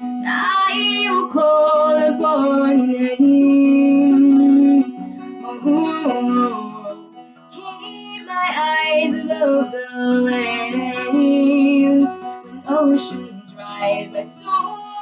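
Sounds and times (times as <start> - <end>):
acoustic guitar chords: 0.0 - 15.0
woman singing: 0.0 - 15.0.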